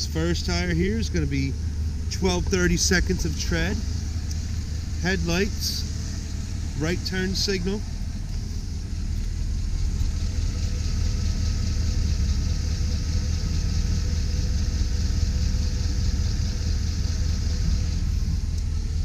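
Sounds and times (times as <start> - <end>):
pickup truck engine idling: 0.0 - 19.0.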